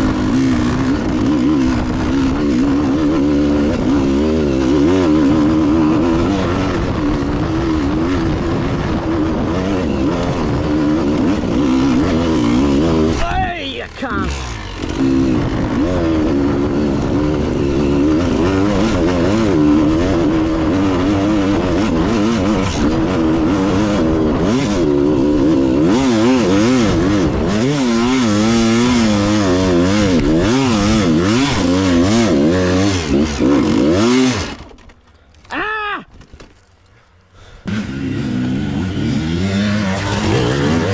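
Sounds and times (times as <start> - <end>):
dirt bike engine revving: 0.0 - 34.8, 37.4 - 40.9.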